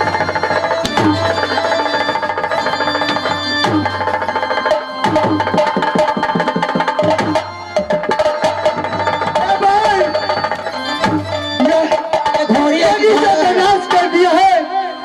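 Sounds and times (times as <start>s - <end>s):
live folk band: 0.0s - 15.0s.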